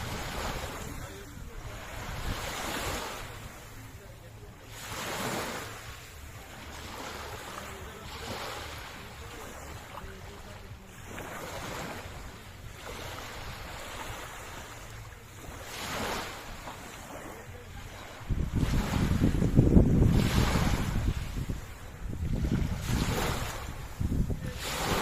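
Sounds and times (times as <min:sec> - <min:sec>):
wind rumble on microphone: 0:00.0 - 0:04.1, 0:05.1 - 0:25.0
sea waves washing onto shore: 0:00.0 - 0:25.0.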